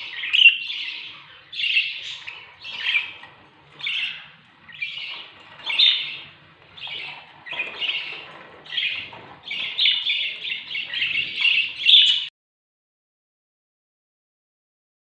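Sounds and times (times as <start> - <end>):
budgerigars chirping and chattering: 0.0 - 12.3.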